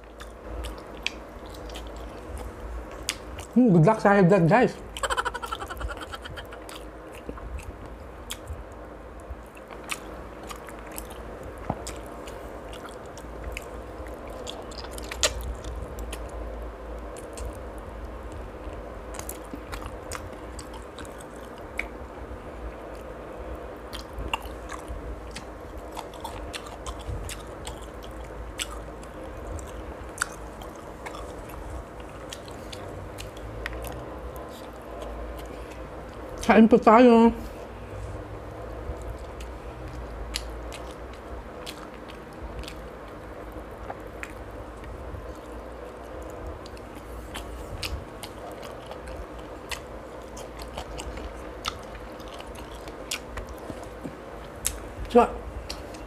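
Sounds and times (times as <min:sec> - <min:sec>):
person chewing: 0:00.0 - 0:03.6, 0:04.9 - 0:22.0, 0:23.8 - 0:36.5, 0:38.8 - 0:54.9
small mouth clicks and crunches: 0:00.0 - 0:03.6, 0:04.9 - 0:16.4, 0:17.0 - 0:17.6, 0:18.3 - 0:22.0, 0:23.9 - 0:36.5, 0:39.0 - 0:56.0.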